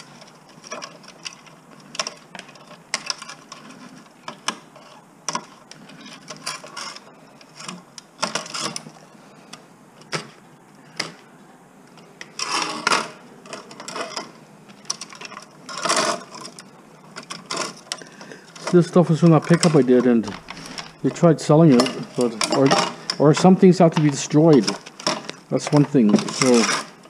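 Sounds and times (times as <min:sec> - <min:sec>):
tools scraping: 0:00.0 - 0:09.1, 0:12.0 - 0:27.0
parts clicking and snapping: 0:00.0 - 0:11.2, 0:11.9 - 0:27.0.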